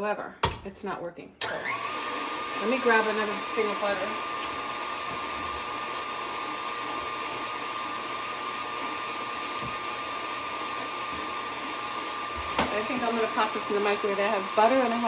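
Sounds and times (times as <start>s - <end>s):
stand mixer motor whine: 1.4s - 15.0s.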